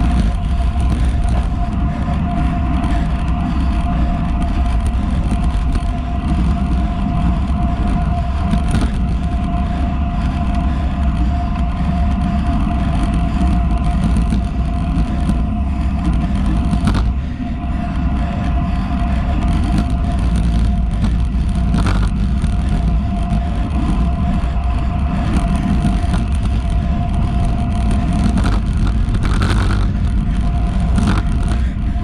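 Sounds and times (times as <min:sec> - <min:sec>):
bike tyre noise on tarmac: 0:00.0 - 0:32.0
steady high hum: 0:00.0 - 0:32.0
wind on microphone: 0:00.0 - 0:32.0.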